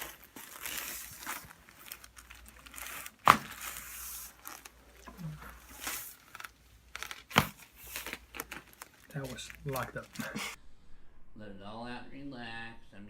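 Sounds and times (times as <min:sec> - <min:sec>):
rustling on treatment table: 0:00.0 - 0:10.6
spinal joint cracks: 0:00.0 - 0:10.6.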